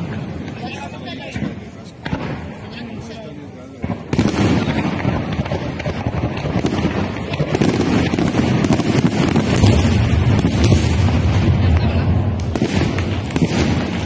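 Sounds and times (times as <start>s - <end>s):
deep fireworks booms: 0.0s - 14.0s
fireworks bangs and crackling: 0.0s - 14.0s.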